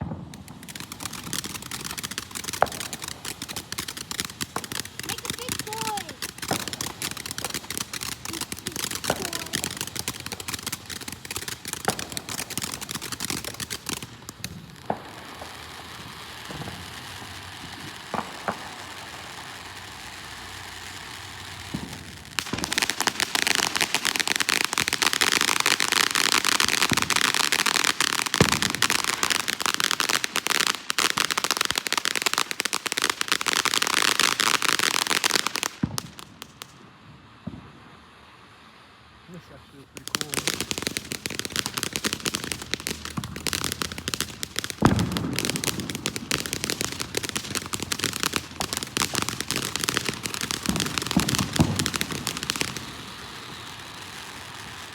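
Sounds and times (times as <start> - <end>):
firework whistles: 0.0 - 54.9
fireworks crackling: 0.0 - 54.9.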